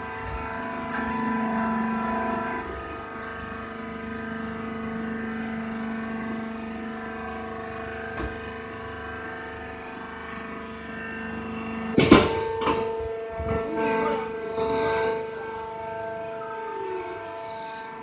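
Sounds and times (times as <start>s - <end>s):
baler motor and pump hum: 0.0s - 18.0s.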